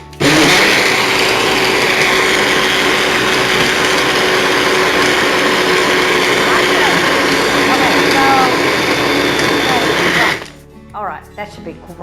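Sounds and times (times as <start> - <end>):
blender motor running: 0.0 - 10.6.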